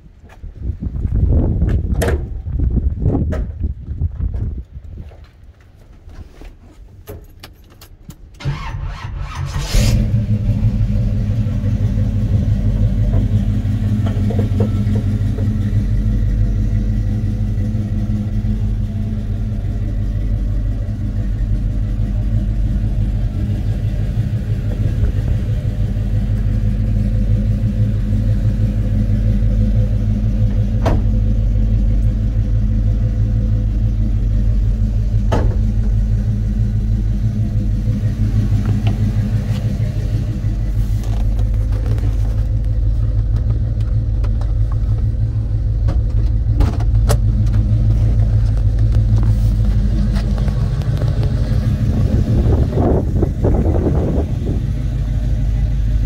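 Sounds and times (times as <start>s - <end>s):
car engine idling: 6.8s - 56.0s.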